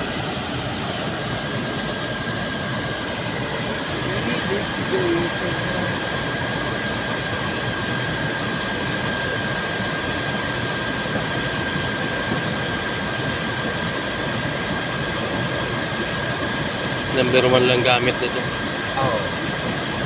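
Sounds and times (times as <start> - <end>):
air conditioning running: 0.0 - 20.0
constant high whine: 0.0 - 20.0.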